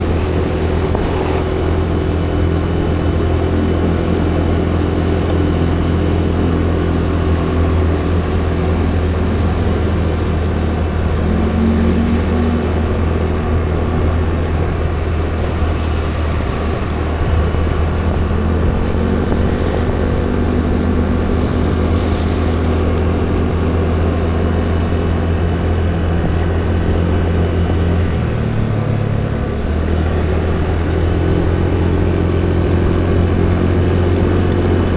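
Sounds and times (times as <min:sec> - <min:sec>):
vehicle engine humming: 0:00.0 - 0:34.9.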